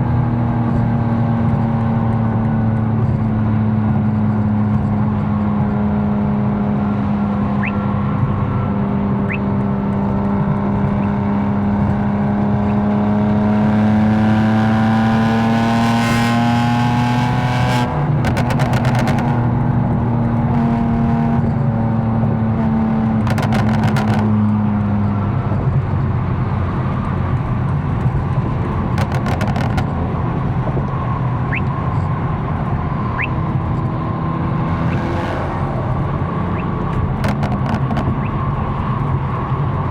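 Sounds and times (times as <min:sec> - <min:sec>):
car engine droning: 0:00.0 - 0:39.9
tyre and road noise: 0:00.0 - 0:39.9.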